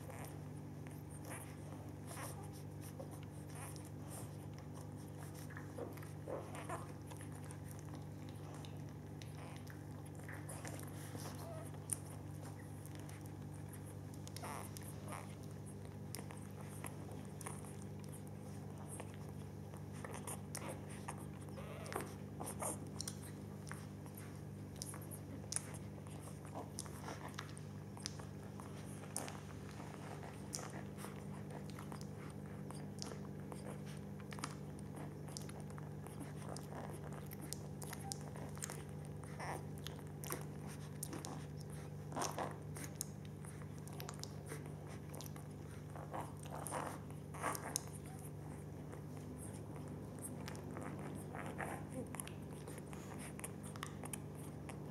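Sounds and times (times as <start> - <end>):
puppies suckling wet clicks: 0.0 - 54.9
steady low hum: 0.0 - 54.9.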